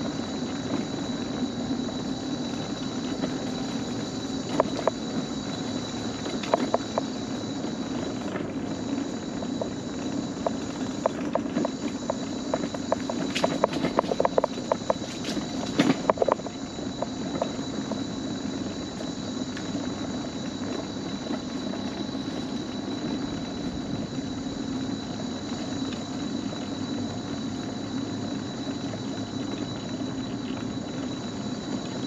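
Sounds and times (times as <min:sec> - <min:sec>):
insects buzzing: 0:00.0 - 0:32.0
low steady rumble: 0:00.0 - 0:32.0.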